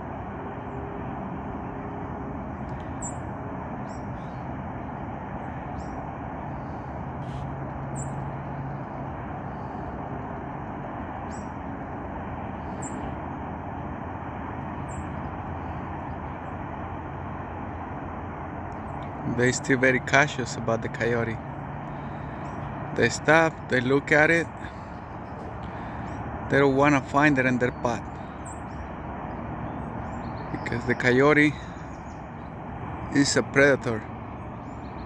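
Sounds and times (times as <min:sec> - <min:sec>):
distant freeway traffic hum: 0:00.0 - 0:35.0.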